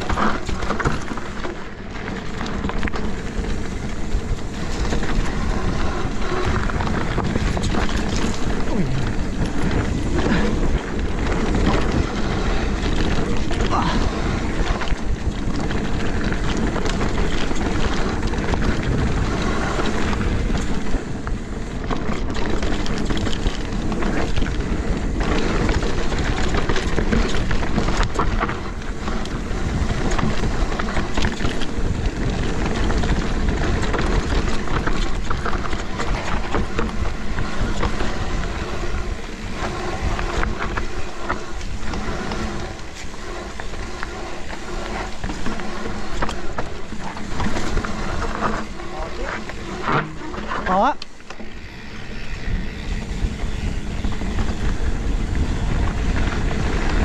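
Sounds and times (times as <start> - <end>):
bike clattering over bumps: 0.0 - 57.0
tyres on dirt: 0.0 - 57.0
wind buffeting microphone: 0.0 - 57.0.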